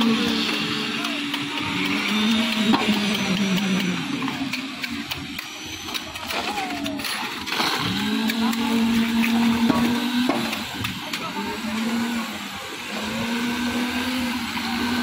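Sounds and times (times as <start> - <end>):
concrete vibrator humming: 0.0 - 15.0.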